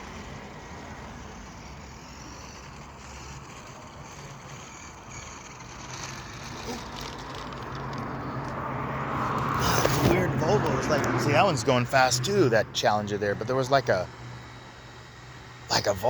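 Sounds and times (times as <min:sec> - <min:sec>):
car approaching: 0:00.0 - 0:16.0
road traffic noise: 0:00.0 - 0:16.0.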